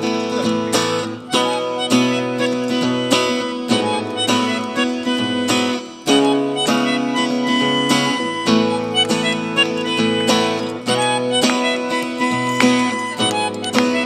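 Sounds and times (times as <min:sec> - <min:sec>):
acoustic guitar strumming: 0:00.0 - 0:14.0
live band playing pop: 0:00.0 - 0:14.0.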